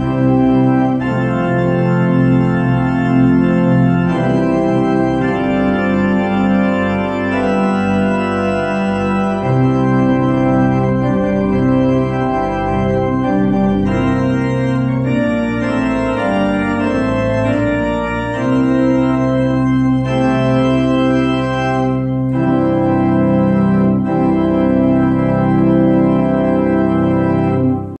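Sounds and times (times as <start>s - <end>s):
organ playing sustained chords: 0.0s - 28.0s.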